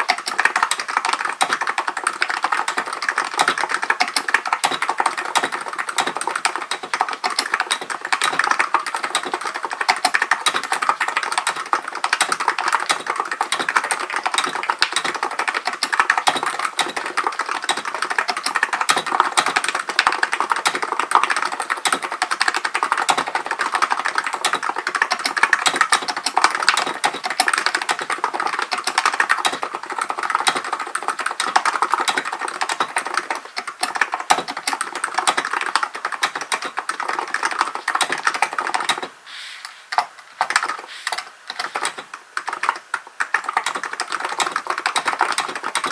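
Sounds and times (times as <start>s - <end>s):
keyboard typing: 0.0s - 45.9s.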